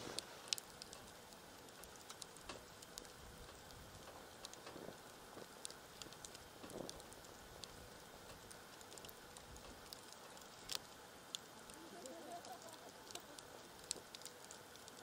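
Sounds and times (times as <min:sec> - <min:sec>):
campfire crackling and popping: 0:00.0 - 0:15.0
low hiss of fire: 0:00.0 - 0:15.0.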